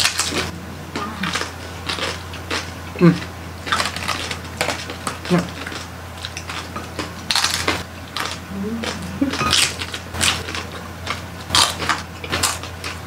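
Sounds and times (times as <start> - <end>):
chewing crispy pork skin: 0.0 - 13.0.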